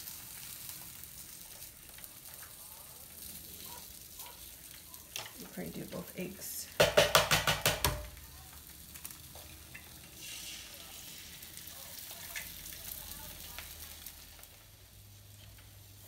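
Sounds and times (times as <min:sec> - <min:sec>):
eggs sizzling in oil: 0:00.0 - 0:16.0.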